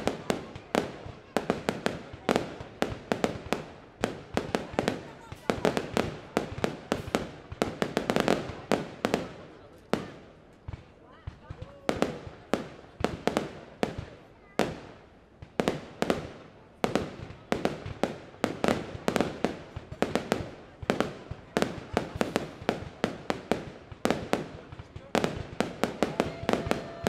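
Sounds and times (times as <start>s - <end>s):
fireworks bursting with echo: 0.0s - 27.0s.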